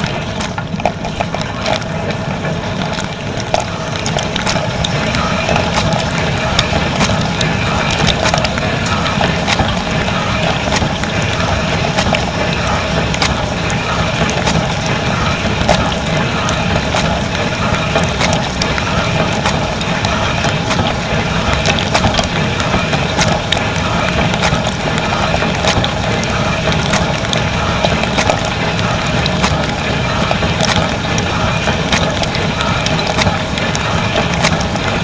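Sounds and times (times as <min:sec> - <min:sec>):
sharp ticks and clatters: 0:00.0 - 0:35.0.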